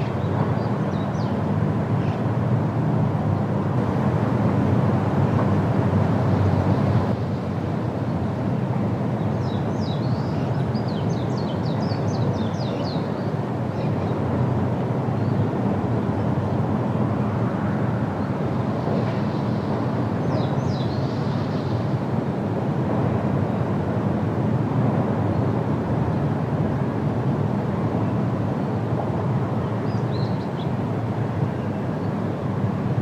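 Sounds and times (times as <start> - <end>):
wind rushing through trees: 0.0 - 33.0.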